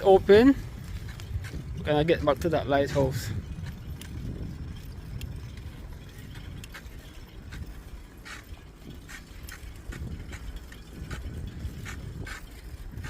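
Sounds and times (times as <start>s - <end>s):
bicycle clicks and rattles: 0.0s - 13.0s.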